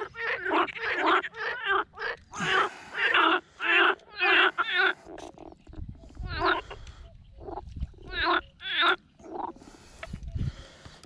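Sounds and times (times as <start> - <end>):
frogs croaking: 0.0 - 10.0.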